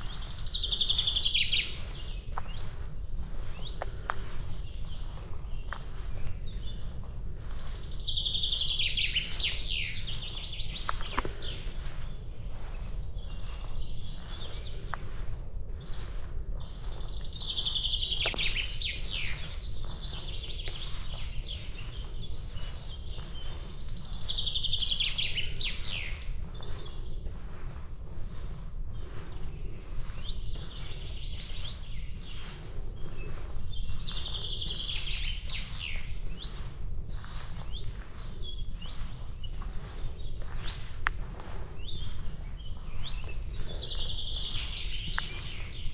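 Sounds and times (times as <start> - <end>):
footsteps on a path: 0.0 - 45.9
songbird singing: 0.0 - 45.9.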